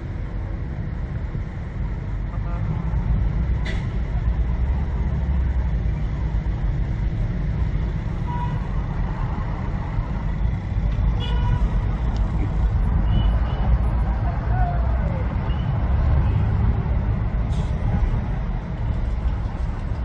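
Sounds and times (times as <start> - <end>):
diesel bus engines idling: 0.0 - 20.0.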